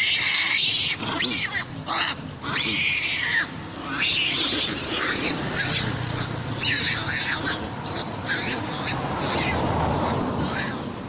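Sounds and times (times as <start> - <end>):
monkeys screaming: 0.0 - 11.0.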